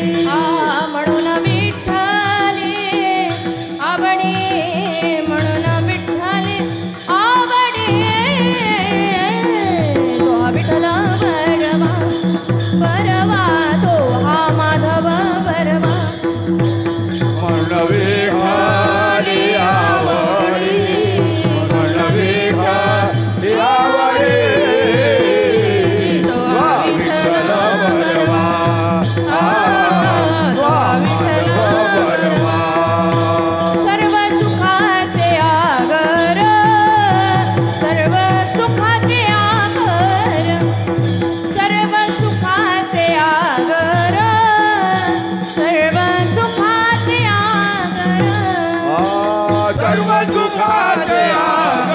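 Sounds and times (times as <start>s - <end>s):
woman singing: 0.0s - 16.4s, 17.4s - 51.9s.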